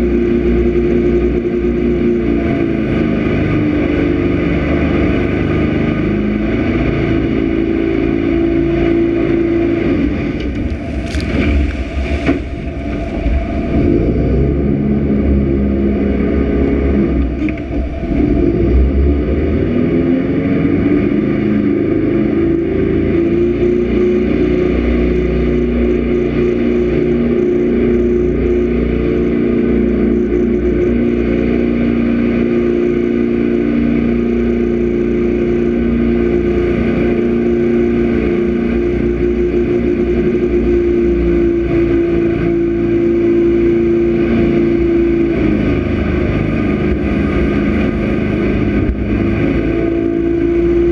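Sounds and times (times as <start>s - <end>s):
jet boat engine droning: 0.0s - 50.9s.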